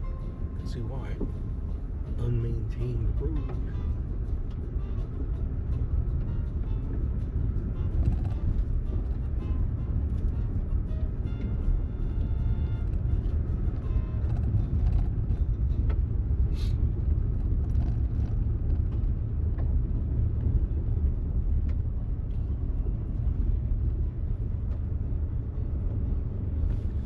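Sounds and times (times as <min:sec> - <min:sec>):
vehicle rumbling on dirt road: 0:00.0 - 0:27.0.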